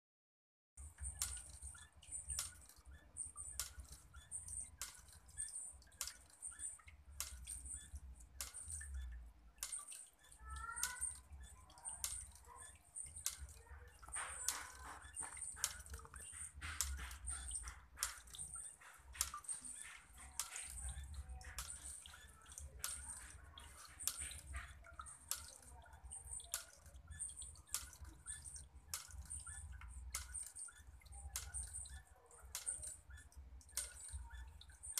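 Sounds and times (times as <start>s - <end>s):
sharp drip ticks: 0.8s - 34.9s
water trickling and dripping: 0.8s - 34.9s.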